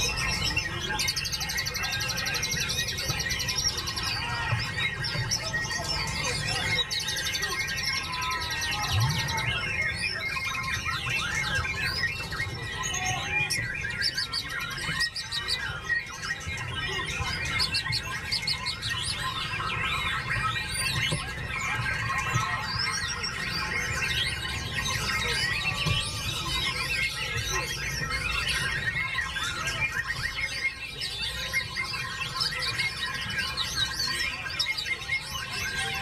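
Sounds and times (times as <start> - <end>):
chorus of songbirds: 0.0 - 36.0
songbird whistles and trills: 0.0 - 36.0.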